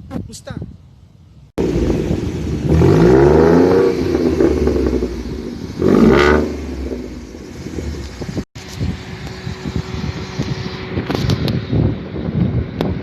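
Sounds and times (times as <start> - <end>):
car engine revving and idling: 1.6 - 13.0.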